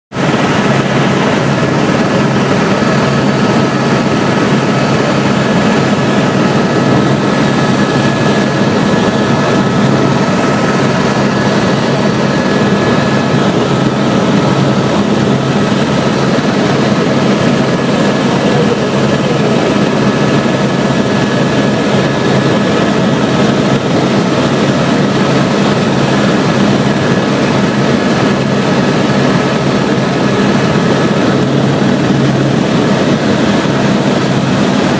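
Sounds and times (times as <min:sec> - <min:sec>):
helicopter engine and rotors droning: 0:00.1 - 0:34.9.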